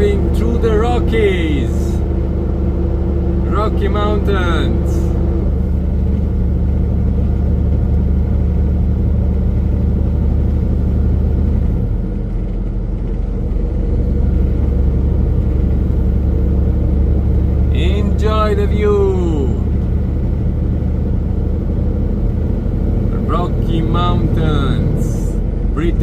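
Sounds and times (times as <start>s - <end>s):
road rumble: 0.0s - 26.0s
truck engine drone: 0.0s - 26.0s.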